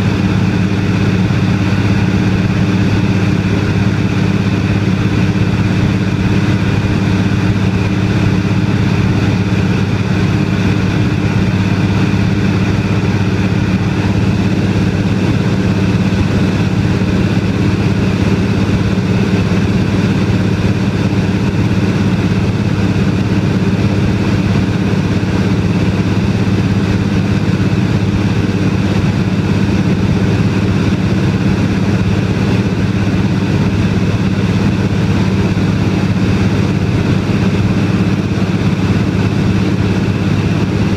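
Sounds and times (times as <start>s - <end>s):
seaplane engine droning: 0.0s - 40.9s.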